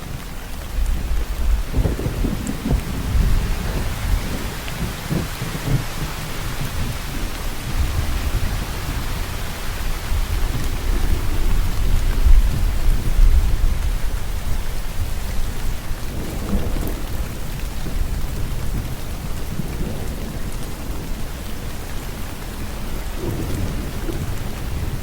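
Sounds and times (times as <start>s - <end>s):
steady rainfall: 0.0s - 25.0s
low rolling thunder: 0.1s - 25.0s.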